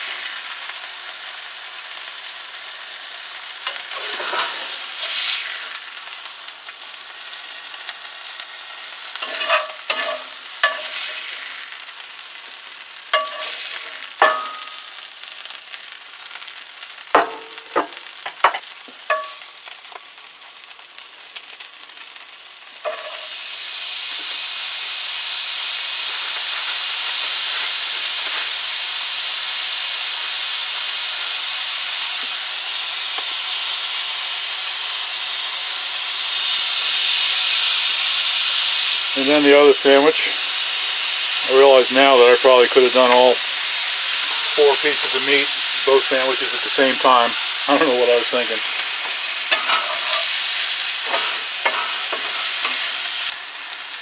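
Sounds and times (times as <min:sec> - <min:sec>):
meat sizzling in a skillet: 0:00.0 - 0:54.0.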